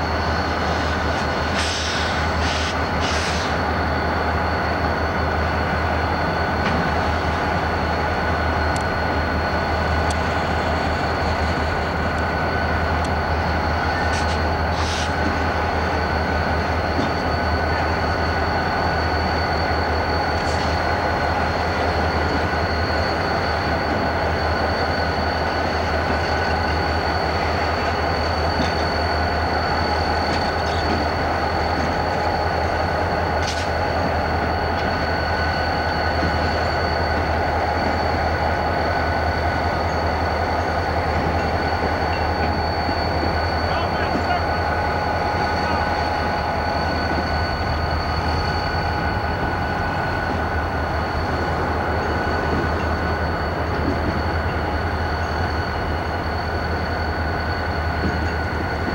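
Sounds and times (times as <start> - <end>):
diesel locomotive drone: 0.0 - 58.9
thin steady whine: 0.0 - 58.9.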